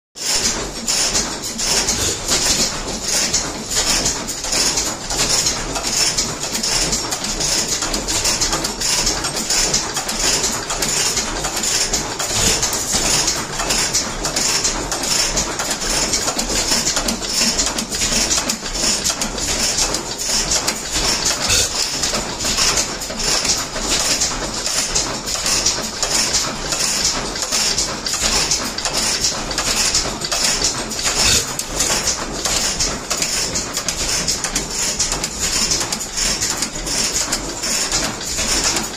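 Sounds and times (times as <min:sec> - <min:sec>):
gas engines running: 0:00.7 - 0:24.0, 0:28.1 - 0:38.9.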